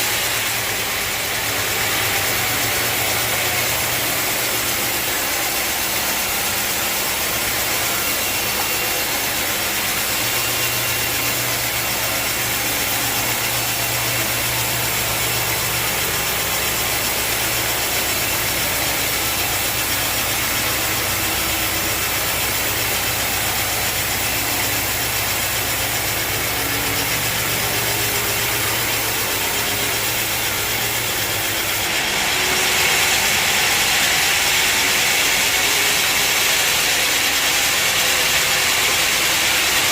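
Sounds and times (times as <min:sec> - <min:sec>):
saw hissing in wood: 0:00.0 - 0:39.8.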